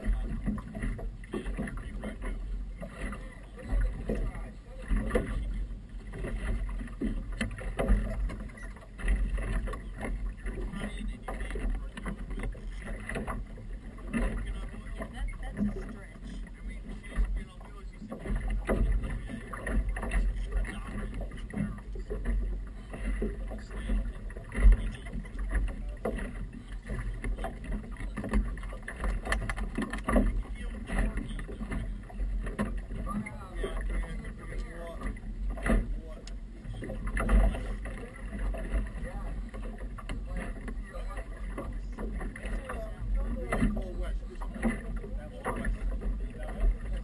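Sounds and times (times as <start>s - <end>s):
motorboat engine rumble: 0.0s - 47.0s
water slapping hull: 0.0s - 47.0s.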